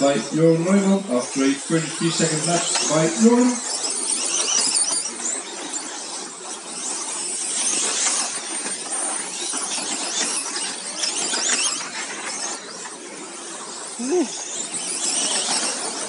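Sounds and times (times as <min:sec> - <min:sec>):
toy truck motors whining: 0:00.0 - 0:16.0.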